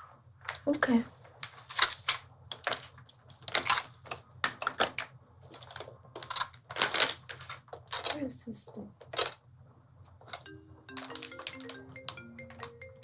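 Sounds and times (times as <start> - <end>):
items clicking and knocking: 0.4 - 9.4, 10.1 - 13.0.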